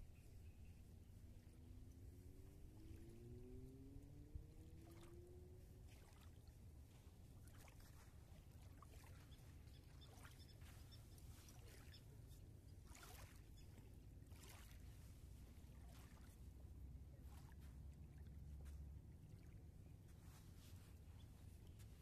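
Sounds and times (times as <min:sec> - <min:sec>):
low steady rumble: 0:00.0 - 0:08.8, 0:10.5 - 0:22.0
small waves lapping: 0:01.1 - 0:22.0
soft splashes: 0:01.4 - 0:22.0.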